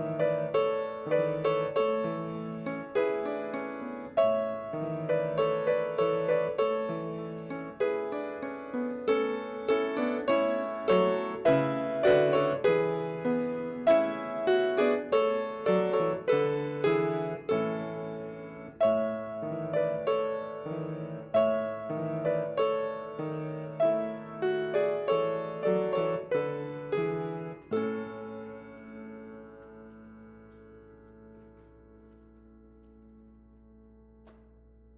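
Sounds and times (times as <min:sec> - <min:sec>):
piano playing chords and melody: 0:00.0 - 0:34.9.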